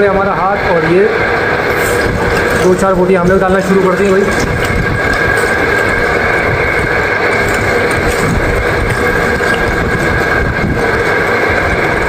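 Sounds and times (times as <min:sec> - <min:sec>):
electric meat mincer whining: 0:01.2 - 0:12.0.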